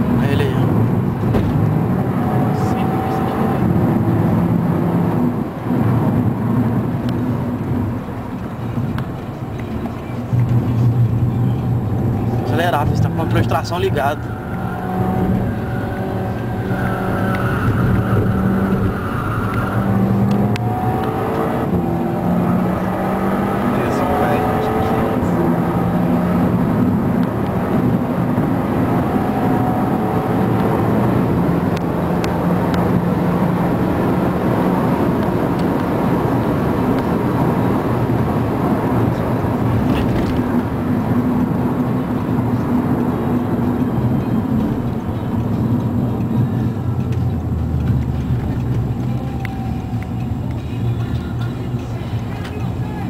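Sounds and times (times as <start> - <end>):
car engine from inside cabin: 0.0 - 53.0.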